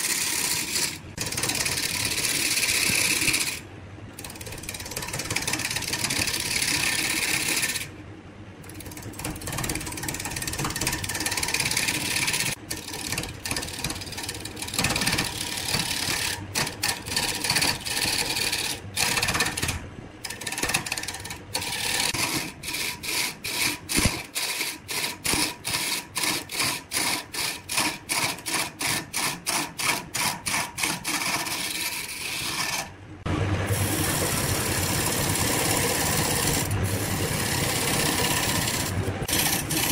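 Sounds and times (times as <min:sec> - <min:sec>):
lathe chisel scraping wood: 0:00.0 - 0:03.6, 0:04.2 - 0:07.9, 0:08.8 - 0:32.9, 0:34.1 - 0:39.9.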